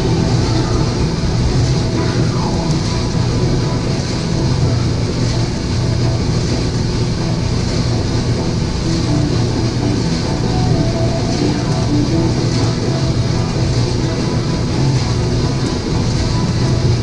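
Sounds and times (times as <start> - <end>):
roaster motor hum and rush: 0.0 - 17.0.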